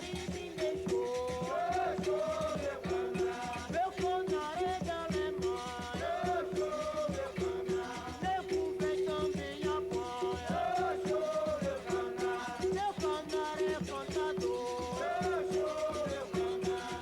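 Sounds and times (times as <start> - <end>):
berimbau with percussion: 0.0 - 17.0
people singing: 0.0 - 17.0.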